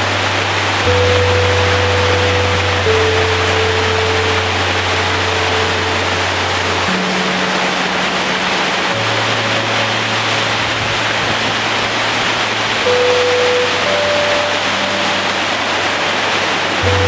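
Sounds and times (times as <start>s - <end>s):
heavy rain on a metal roof: 0.0s - 17.0s
soft background music: 0.0s - 17.0s.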